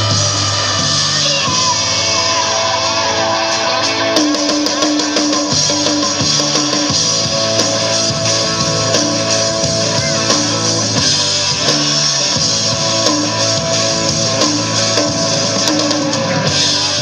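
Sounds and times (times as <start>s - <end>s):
loud electric guitar rock music: 0.0s - 17.0s.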